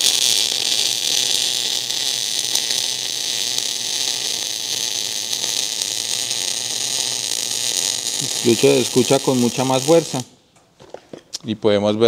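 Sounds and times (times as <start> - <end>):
welding arc hissing: 0.0 - 10.4.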